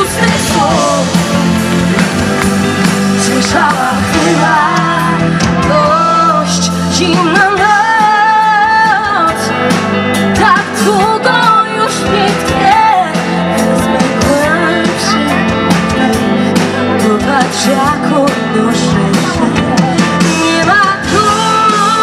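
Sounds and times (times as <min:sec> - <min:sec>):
woman singing into microphone: 0:00.0 - 0:01.3, 0:03.2 - 0:22.0
pop rock band playing: 0:00.0 - 0:22.0.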